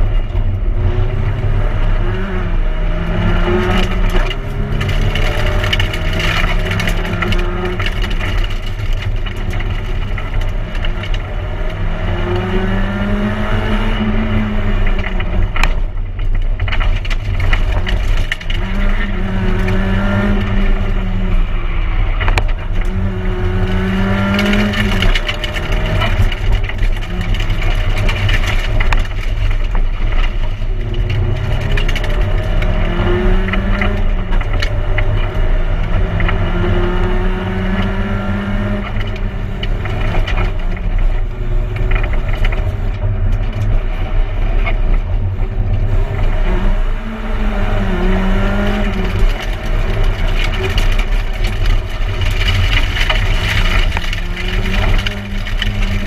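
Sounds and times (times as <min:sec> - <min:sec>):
rally car engine accelerating: 0:00.0 - 0:56.0
road and drivetrain rumble: 0:00.0 - 0:56.0.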